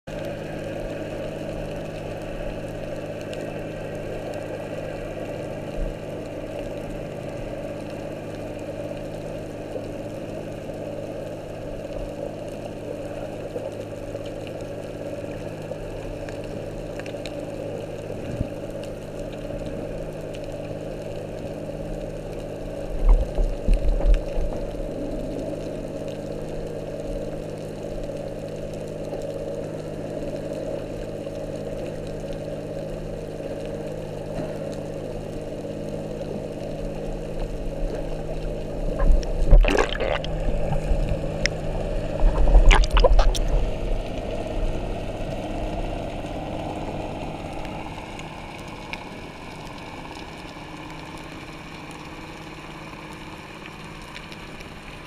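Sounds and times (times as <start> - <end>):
boat engine hum underwater: 0.1 - 55.0.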